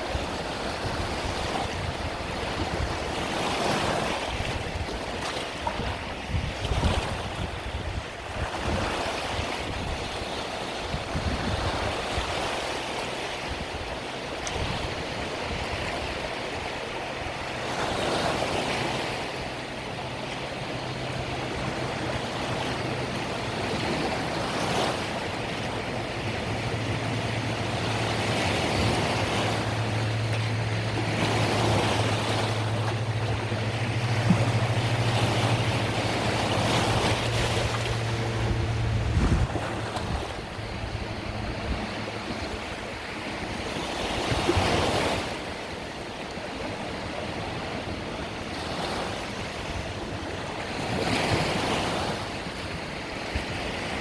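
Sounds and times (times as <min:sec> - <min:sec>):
low engine hum: 0:00.0 - 0:54.0
waves washing onto a beach: 0:00.0 - 0:54.0.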